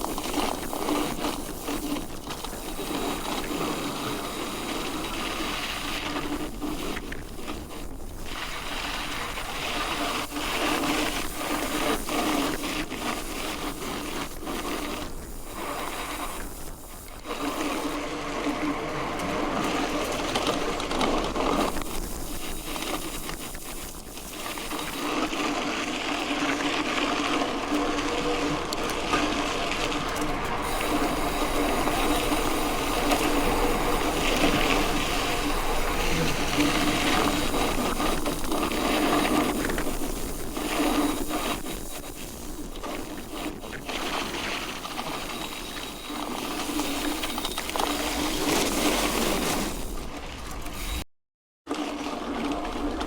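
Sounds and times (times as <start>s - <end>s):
bike tyres on gravel: 0.0s - 51.0s
bike mechanical whirr and rattle: 0.0s - 51.1s, 51.7s - 53.0s.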